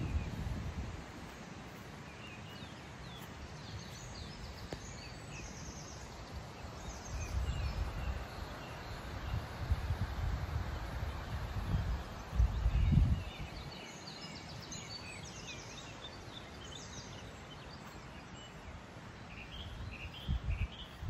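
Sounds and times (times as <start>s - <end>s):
small birds chirping: 0.0s - 21.0s
steady outdoor hiss: 0.0s - 21.0s.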